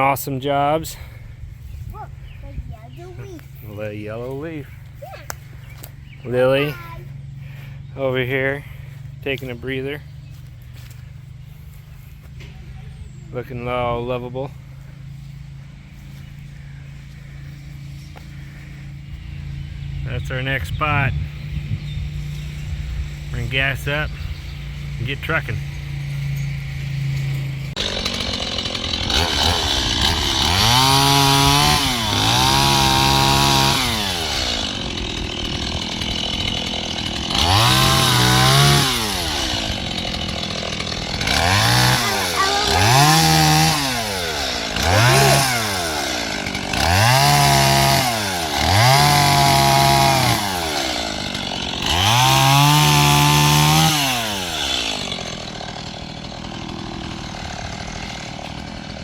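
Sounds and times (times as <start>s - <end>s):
chainsaw revving: 2.5s - 20.6s, 22.1s - 59.0s.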